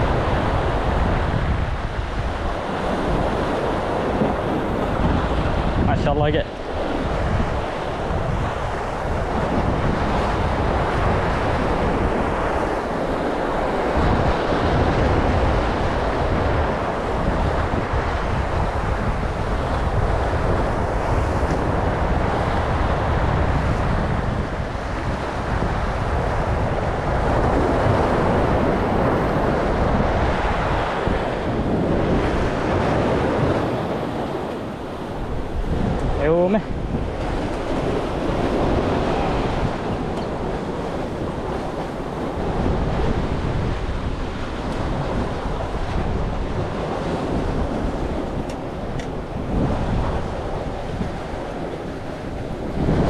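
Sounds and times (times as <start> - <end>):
sea surf breaking on concrete blocks: 0.0 - 53.0
wind buffeting microphone: 0.0 - 53.0.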